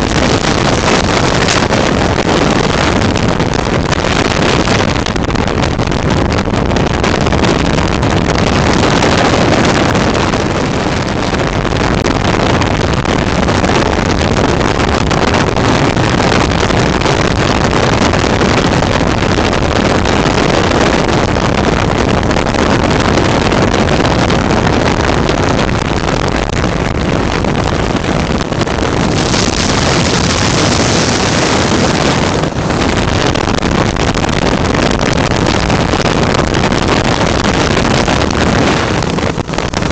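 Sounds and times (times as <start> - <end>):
microlight engine and propeller: 0.0 - 39.9
wind rushing on microphone: 0.0 - 39.9.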